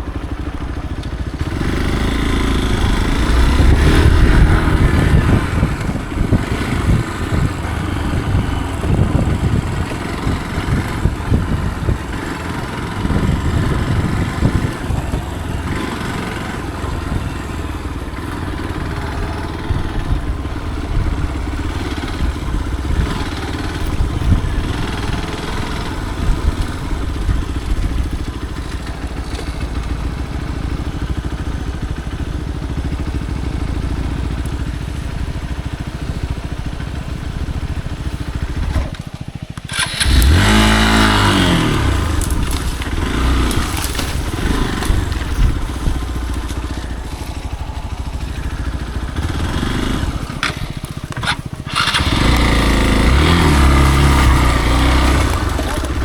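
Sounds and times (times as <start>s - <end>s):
motorcycle engine on rough trail: 0.0s - 56.0s.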